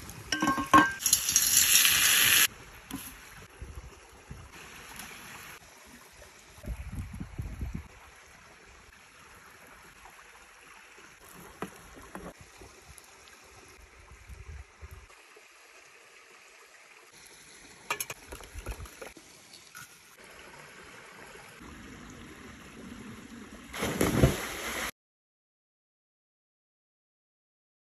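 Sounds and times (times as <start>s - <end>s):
running water: 0.0s - 24.9s.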